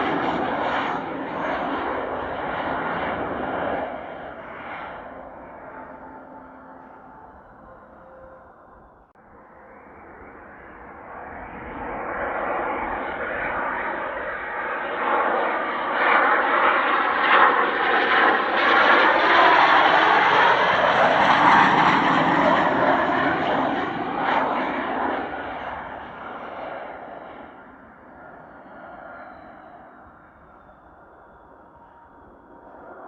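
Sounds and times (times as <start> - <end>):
jet engine roar: 0.0 - 33.0.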